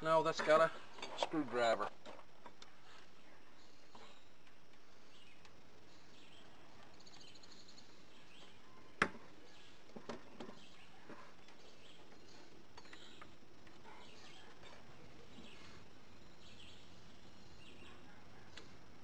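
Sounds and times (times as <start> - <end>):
birds chirping: 2.5 - 19.0.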